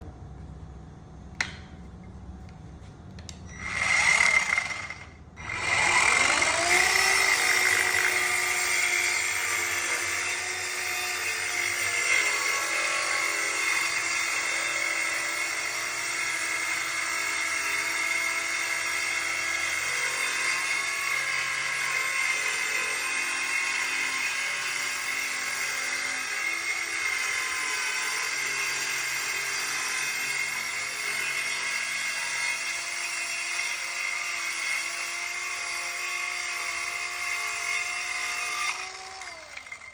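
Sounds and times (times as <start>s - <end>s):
power saw motor whining: 3.5s - 39.9s.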